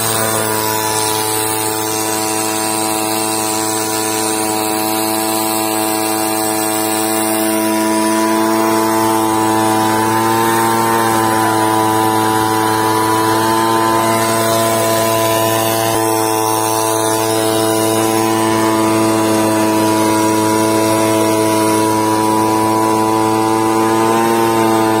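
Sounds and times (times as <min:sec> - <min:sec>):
brush cutter engine running: 0:00.0 - 0:25.0.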